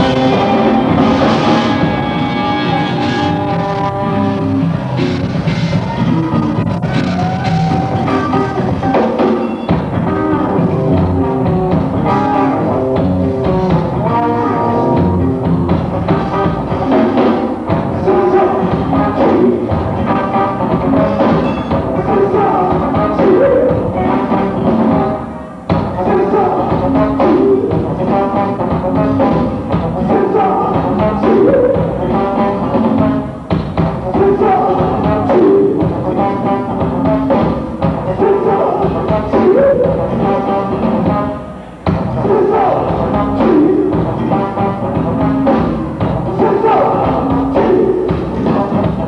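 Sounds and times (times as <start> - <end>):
drum kit: 0.0 - 49.0
live rock band playing: 0.0 - 49.0.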